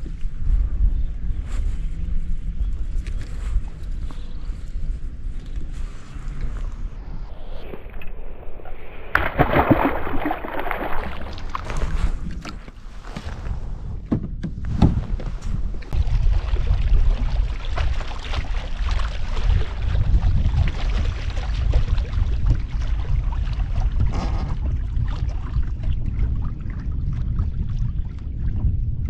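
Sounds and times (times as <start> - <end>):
wind buffeting microphone: 0.0 - 29.0
water lapping against kayak hull: 5.4 - 29.0.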